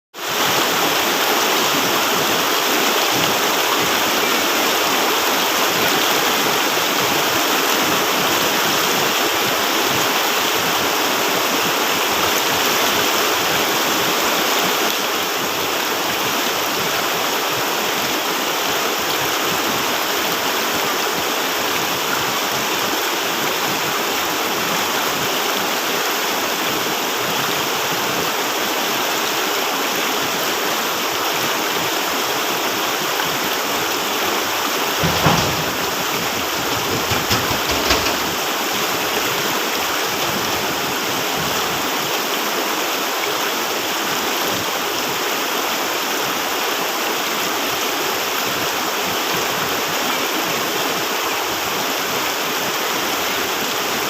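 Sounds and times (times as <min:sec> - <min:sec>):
river rushing over stones: 0:00.2 - 0:54.0.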